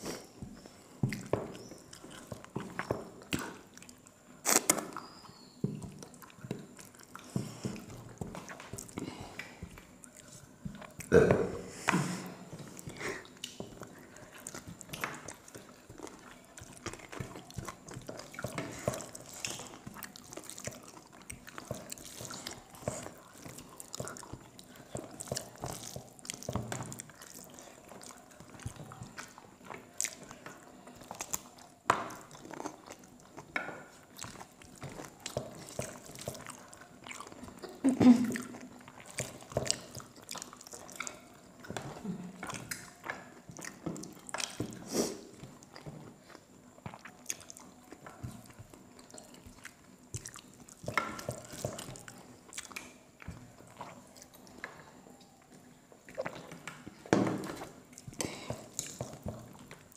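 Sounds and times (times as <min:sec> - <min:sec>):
close chewing and biting: 0:00.0 - 0:11.6, 0:12.2 - 0:59.9.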